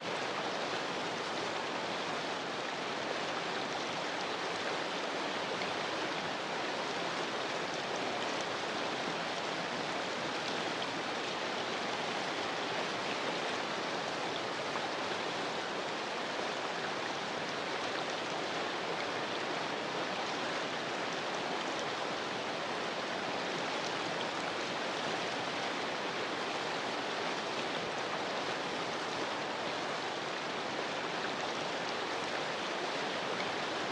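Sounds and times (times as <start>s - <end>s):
steady rainfall: 0.0s - 33.9s.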